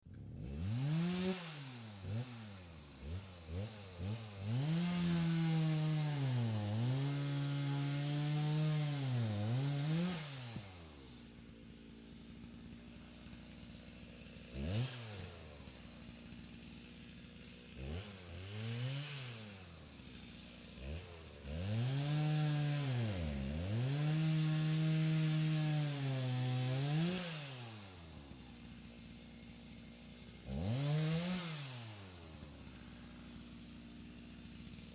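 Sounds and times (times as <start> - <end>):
distant chainsaw revving and cutting: 0.0 - 34.9.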